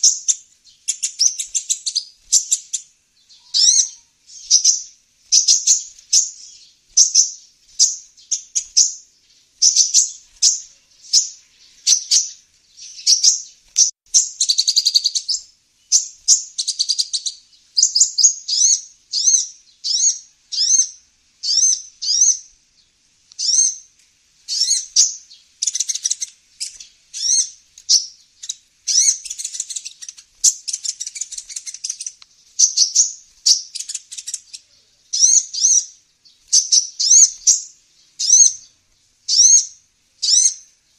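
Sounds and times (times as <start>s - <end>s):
bird chirps and buzzy trills: 0.0s - 40.9s.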